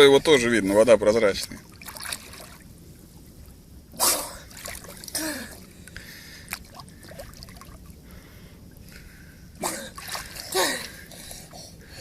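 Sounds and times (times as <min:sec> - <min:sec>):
water trickling and lapping: 0:00.1 - 0:12.0
sea water splashing: 0:01.2 - 0:11.6.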